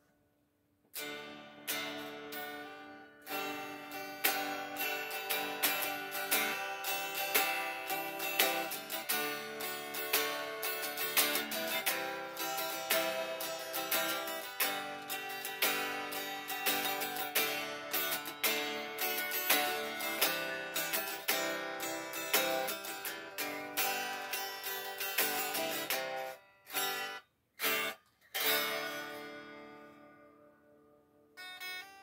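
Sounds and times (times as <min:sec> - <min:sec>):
solo guitar playing: 0:01.0 - 0:32.0.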